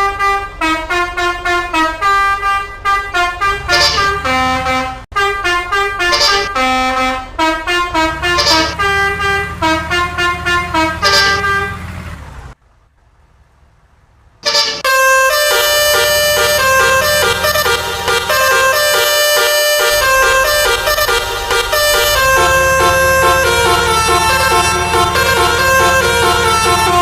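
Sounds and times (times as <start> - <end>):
multi-tone bus horn melody: 0.0 - 12.4, 14.4 - 27.0.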